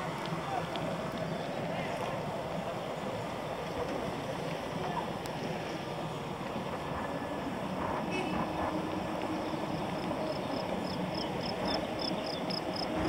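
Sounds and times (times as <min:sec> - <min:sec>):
distant truck engines: 0:00.0 - 0:13.0
road rumble: 0:00.0 - 0:13.0.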